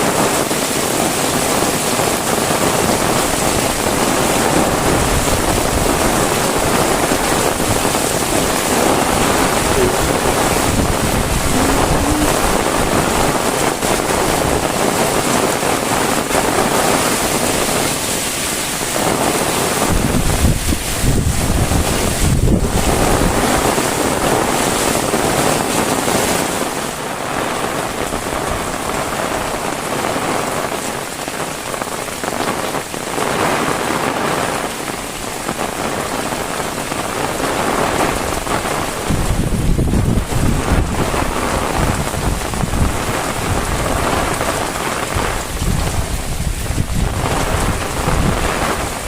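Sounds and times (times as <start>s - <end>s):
heavy rain: 0.0s - 49.0s.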